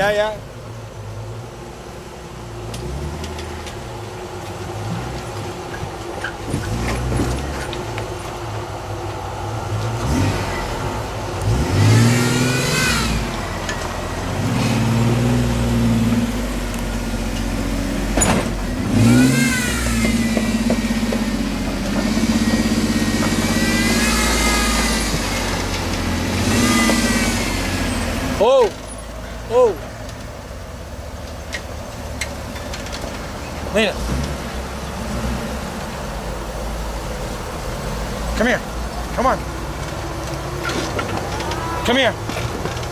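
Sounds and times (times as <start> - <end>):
truck engine revving: 2.4 - 42.9.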